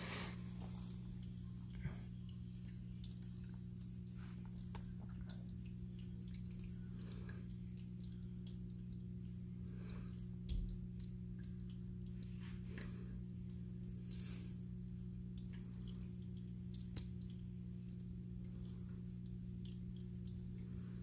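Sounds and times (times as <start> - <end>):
pump hum: 0.0 - 21.0
water trickling and dripping: 0.0 - 21.0.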